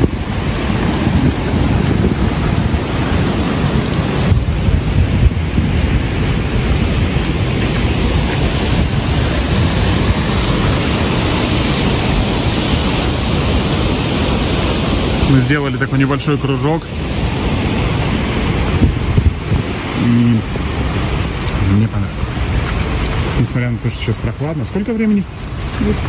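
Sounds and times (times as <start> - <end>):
wind blowing over microphone: 0.0 - 26.0.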